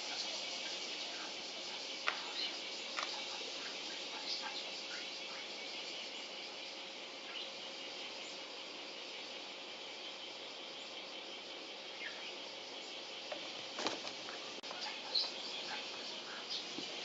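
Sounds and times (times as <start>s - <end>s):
faint bird chirps: 0.0s - 17.0s
high-pitched insect drone: 0.0s - 17.0s.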